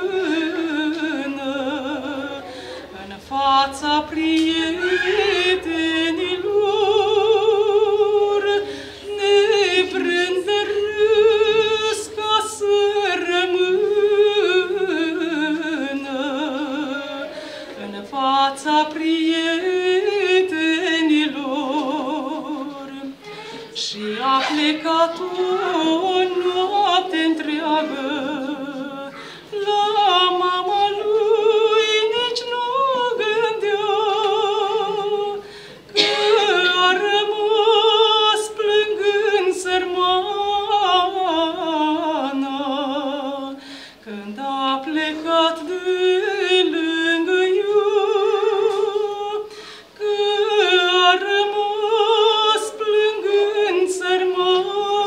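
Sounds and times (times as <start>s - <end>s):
woman singing devotional song: 0.0s - 55.0s.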